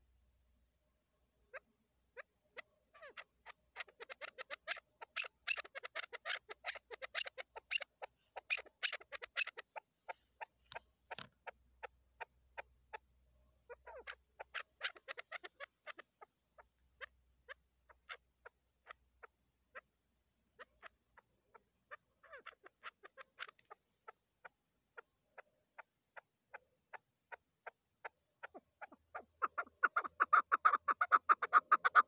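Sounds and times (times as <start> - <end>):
partridge clucking calls: 1.5 - 13.0, 13.7 - 20.0, 20.6 - 32.0.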